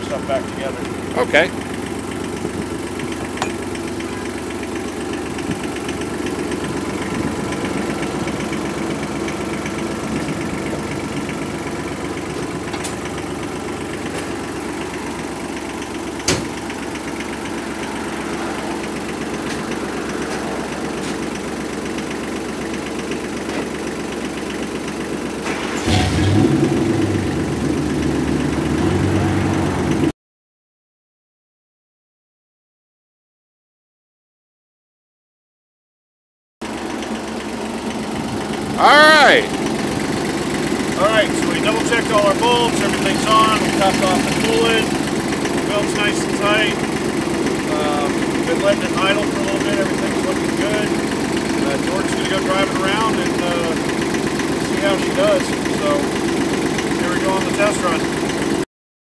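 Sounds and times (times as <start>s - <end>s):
deeper engine rumble: 0.0s - 30.1s, 36.6s - 58.6s
diesel engine idling: 0.0s - 30.1s, 36.6s - 58.7s.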